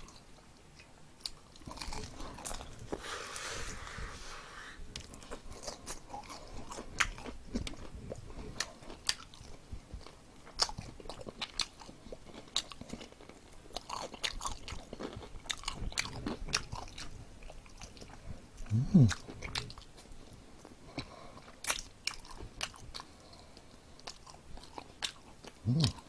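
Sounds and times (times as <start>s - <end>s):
person chewing crispy chicken: 0.0s - 3.4s, 4.9s - 26.0s.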